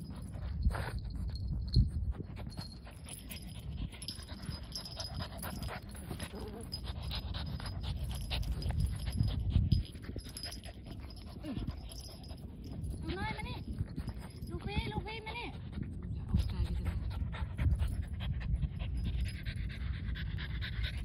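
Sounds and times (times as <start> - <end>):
dogs breathing and snuffling: 0.0 - 21.0.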